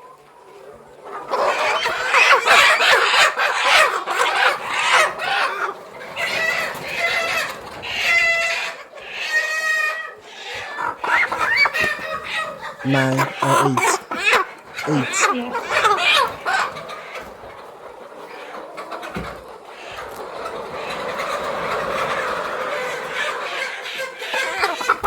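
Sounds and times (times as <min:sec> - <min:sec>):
chickens clucking and squawking: 0:00.0 - 0:25.0.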